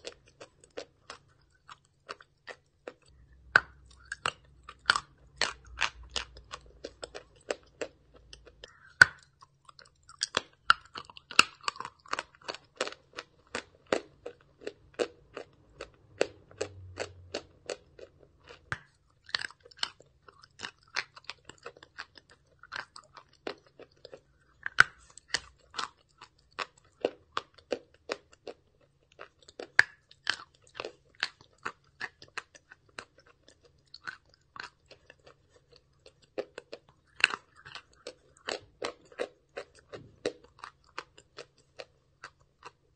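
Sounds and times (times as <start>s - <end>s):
chalk crunching while chewing: 0.0s - 42.9s.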